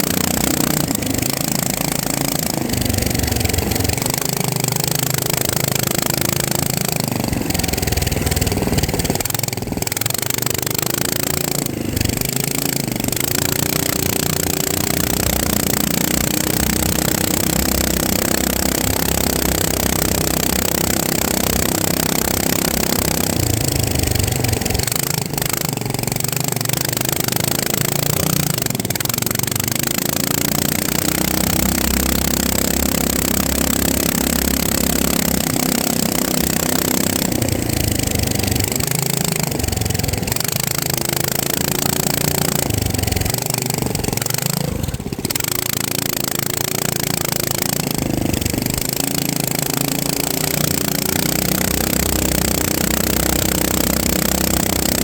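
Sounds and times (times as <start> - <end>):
quadcopter propellers buzzing: 0.0 - 55.0.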